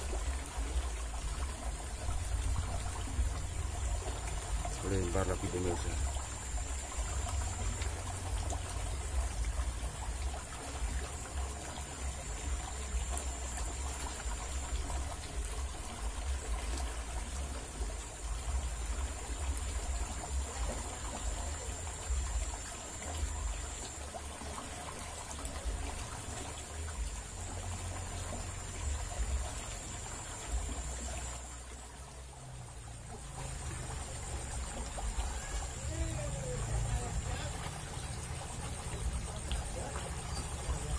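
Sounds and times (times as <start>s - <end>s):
water rushing down a ditch: 0.0s - 40.9s.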